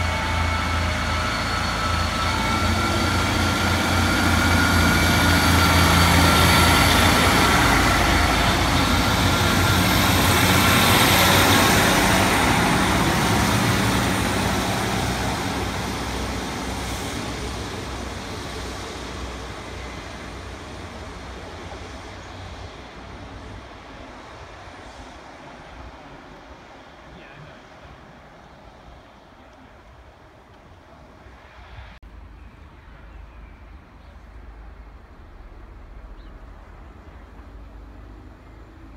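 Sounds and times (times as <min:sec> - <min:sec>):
train engine hum and whine: 0:00.0 - 0:38.9.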